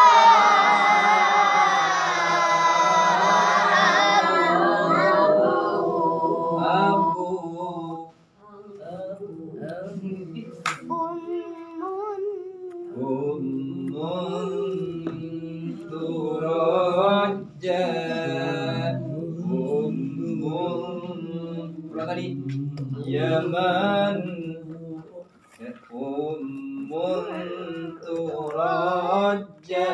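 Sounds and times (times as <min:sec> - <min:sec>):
melodic religious recitation chanted: 0:00.0 - 0:29.9.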